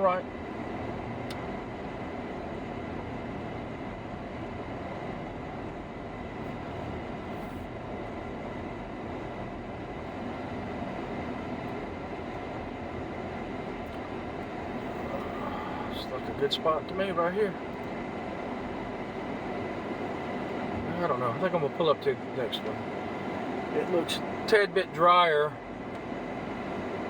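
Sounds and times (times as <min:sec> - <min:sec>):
in-cabin rumble of van driving: 0:00.0 - 0:27.0.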